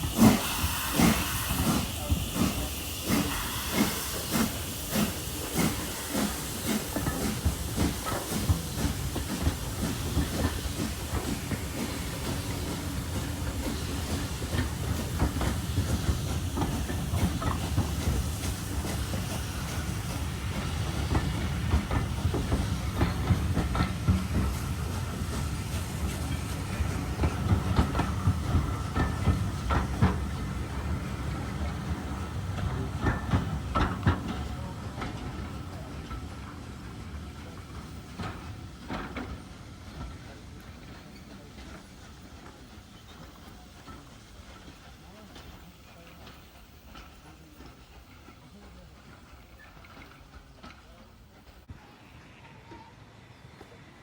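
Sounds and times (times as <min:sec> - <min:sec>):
train wheels clattering: 0:00.0 - 0:51.7
steam hissing: 0:00.0 - 0:52.0.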